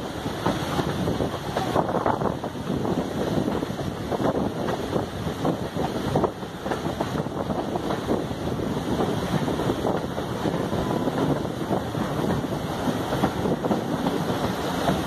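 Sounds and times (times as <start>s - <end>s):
train running on track: 0.0s - 15.0s
wind buffeting microphone: 0.0s - 15.0s.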